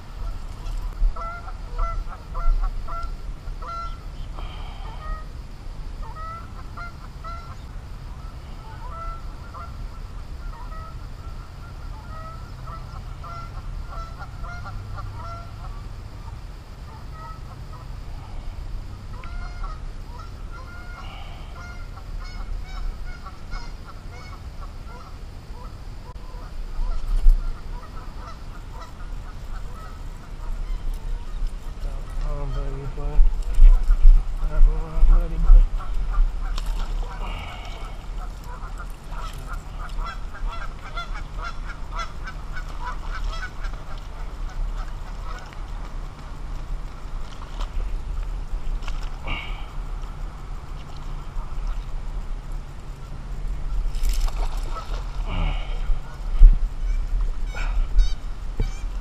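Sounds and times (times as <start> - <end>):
geese honking: 1.1 - 5.3, 6.0 - 33.0, 34.8 - 46.0, 53.0 - 59.0.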